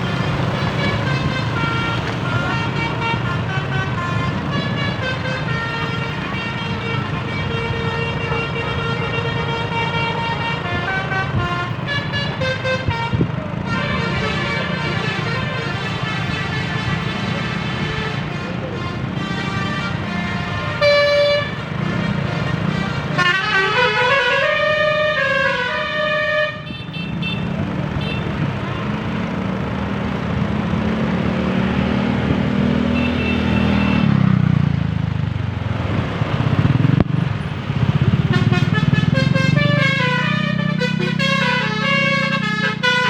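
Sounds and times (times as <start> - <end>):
musical vehicle horn: 0.0 - 29.0, 32.4 - 34.2, 37.8 - 43.0
road noise: 0.0 - 43.0
vehicle engine: 0.0 - 43.0.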